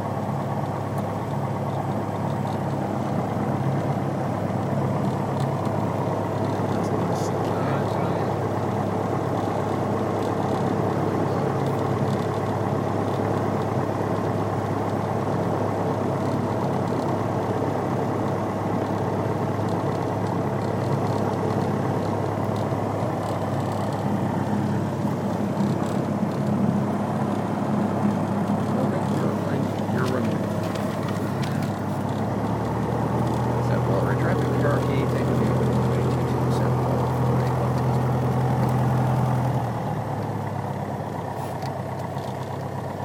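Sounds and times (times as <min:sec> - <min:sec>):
light airplane engine and propeller: 0:00.0 - 0:43.0.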